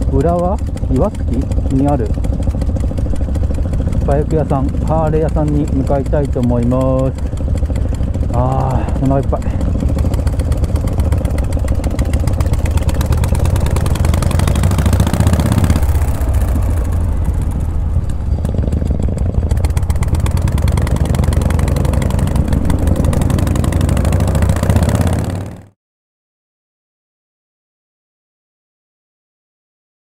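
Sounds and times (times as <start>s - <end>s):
motorcycle engine riding off: 0.0s - 25.8s.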